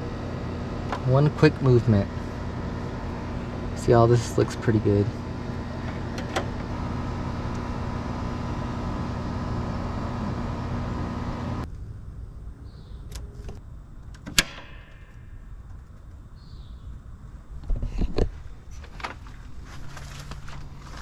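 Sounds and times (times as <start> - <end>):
air conditioner whirring: 0.0 - 17.6.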